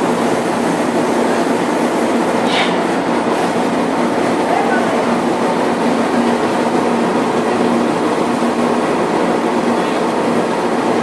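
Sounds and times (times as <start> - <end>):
deck machinery droning: 0.0 - 11.0.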